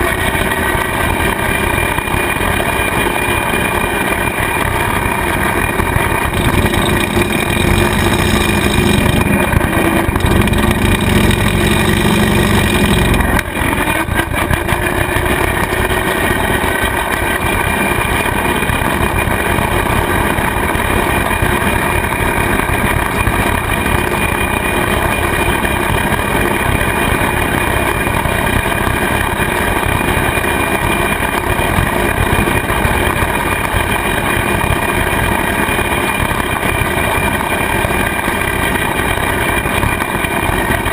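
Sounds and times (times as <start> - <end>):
rotary cutter through grass: 0.0 - 40.9
tractor diesel engine running: 0.0 - 40.9.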